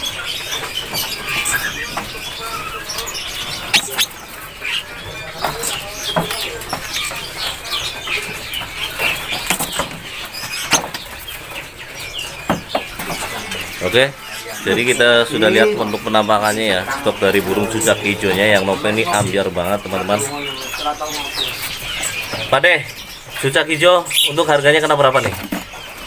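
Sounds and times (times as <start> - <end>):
birds chirping: 0.0 - 26.0
birds fluttering against cage bars: 0.0 - 26.0.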